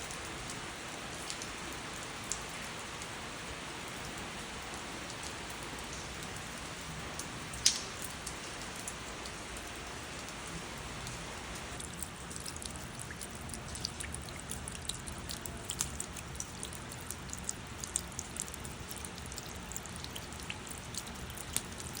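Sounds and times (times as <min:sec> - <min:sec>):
rain hiss: 0:00.0 - 0:22.0
raindrop striking close by: 0:00.0 - 0:22.0
raindrops pattering on a surface: 0:00.0 - 0:22.0.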